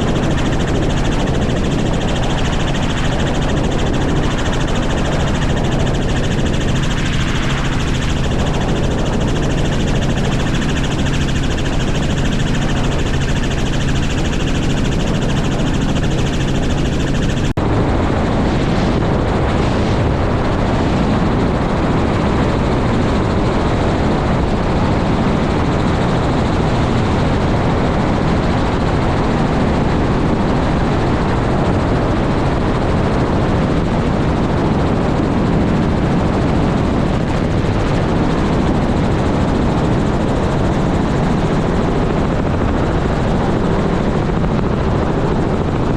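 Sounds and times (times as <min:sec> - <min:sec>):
helicopter running loudly: 0:00.0 - 0:45.9.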